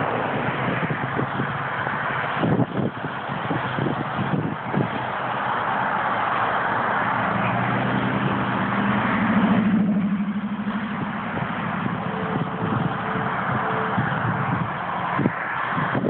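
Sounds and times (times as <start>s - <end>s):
road and wind noise: 0.0s - 16.0s
vehicle engine passing: 0.0s - 16.0s.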